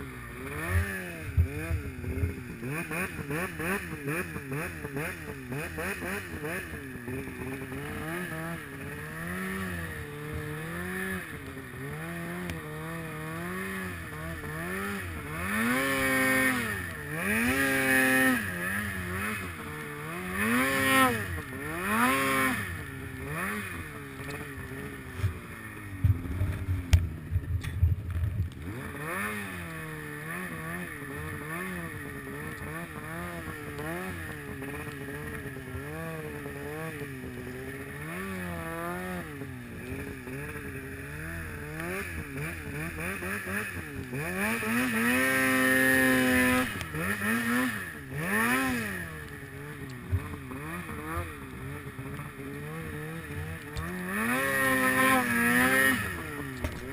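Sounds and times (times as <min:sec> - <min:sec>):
snowmobile engine revving: 0:00.0 - 0:27.7, 0:28.4 - 0:56.9.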